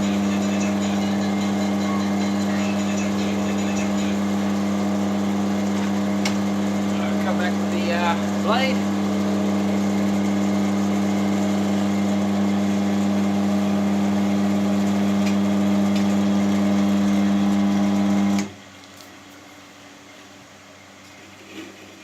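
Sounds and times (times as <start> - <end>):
chisel cutting spinning wood: 0.0 - 18.4
wood lathe motor hum: 0.0 - 18.5.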